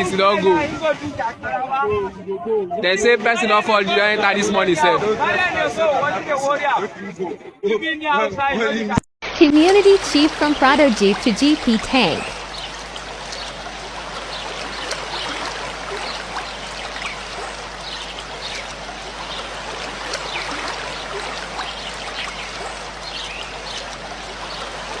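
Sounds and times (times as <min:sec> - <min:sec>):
rushing floodwater: 0:00.0 - 0:07.2, 0:09.2 - 0:25.0.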